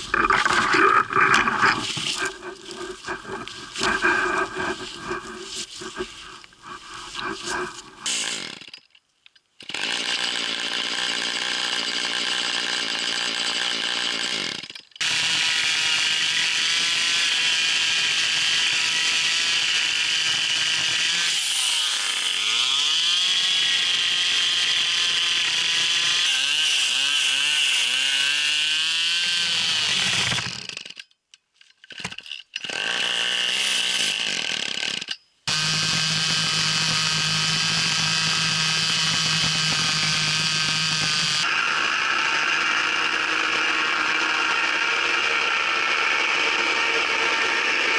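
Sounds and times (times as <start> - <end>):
chainsaw engine running: 0.0 - 8.6, 9.6 - 30.9, 32.6 - 47.9.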